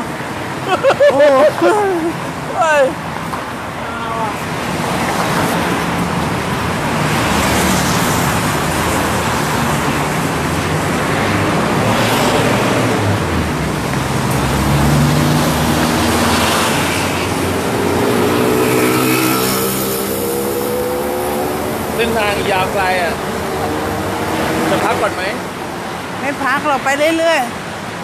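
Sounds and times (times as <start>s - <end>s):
vehicles passing: 0.0s - 28.0s
steady rushing noise: 4.4s - 28.0s.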